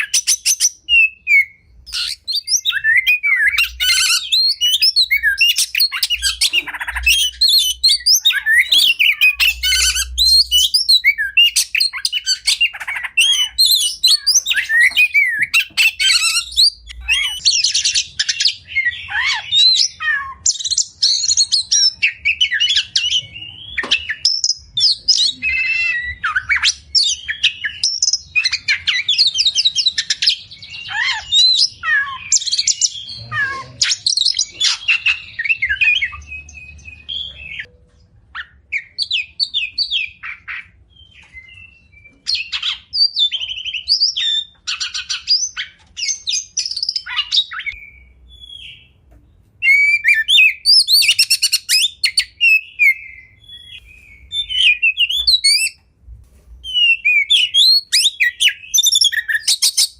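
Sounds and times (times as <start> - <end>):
songbird singing whistles and trills: 0.0 - 37.8, 38.4 - 49.0, 49.6 - 55.8, 56.6 - 59.9.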